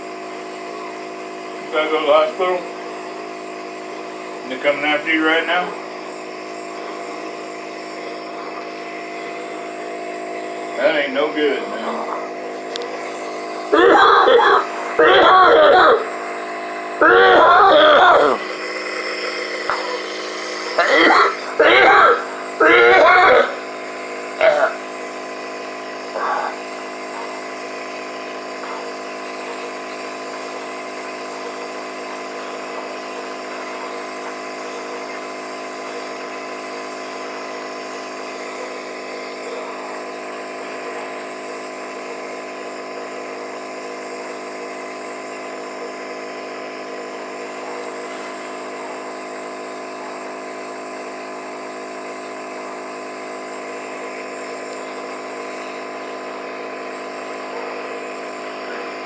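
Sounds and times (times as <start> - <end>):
small electric motor humming: 0.0 - 59.0.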